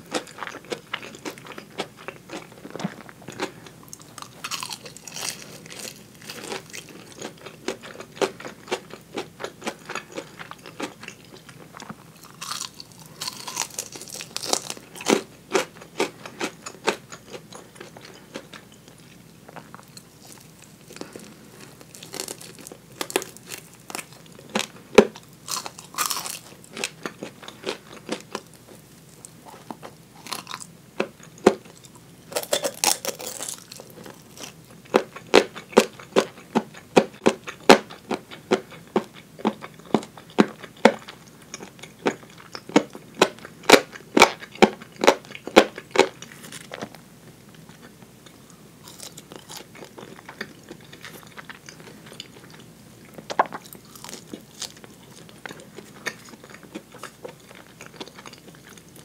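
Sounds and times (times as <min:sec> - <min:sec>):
chewing crunchy fried chicken: 0:00.0 - 0:59.0.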